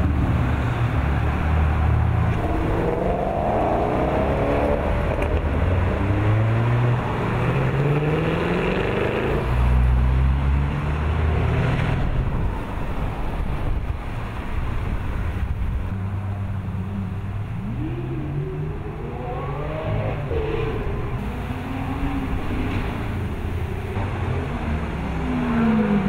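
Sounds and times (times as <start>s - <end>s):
sports cars driving past: 0.0s - 26.0s.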